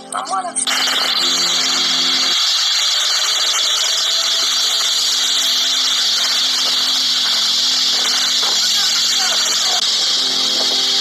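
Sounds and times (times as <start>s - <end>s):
fire hose rushing hiss: 0.7s - 11.0s.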